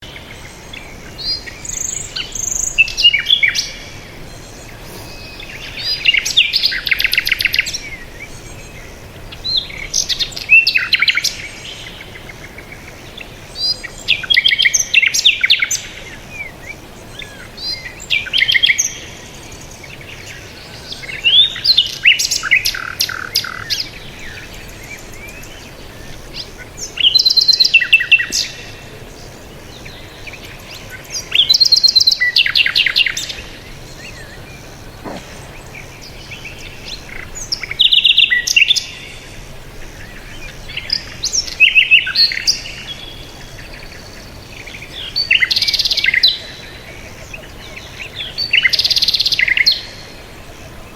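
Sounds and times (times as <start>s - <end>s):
faint steady background hiss: 0.0s - 50.9s
songbird chirps and trills: 0.0s - 50.9s.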